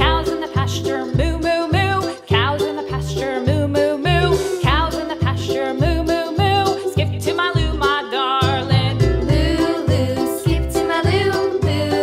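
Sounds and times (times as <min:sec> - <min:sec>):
sliding voice-like lead melody: 0:00.0 - 0:12.0
upbeat music with bass: 0:00.0 - 0:12.0.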